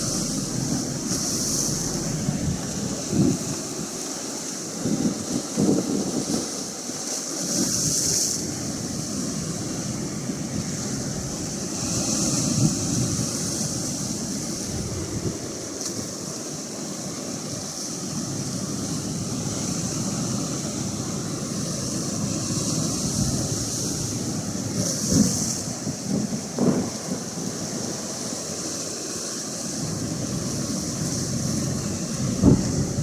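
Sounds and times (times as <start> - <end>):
wind buffeting microphone: 0.0 - 28.7, 29.6 - 33.0
ocean surf washing: 0.0 - 33.0.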